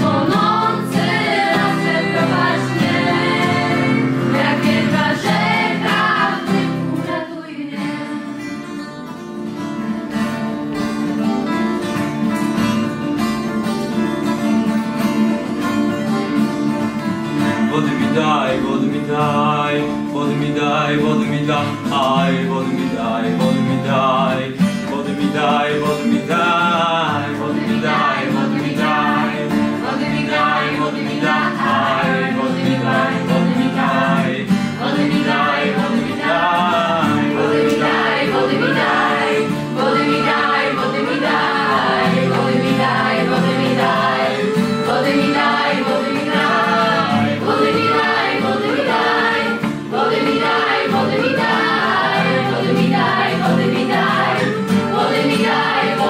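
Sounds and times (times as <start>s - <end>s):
group of voices singing: 0.0s - 9.0s, 17.4s - 56.0s
strummed acoustic guitars: 0.0s - 56.0s.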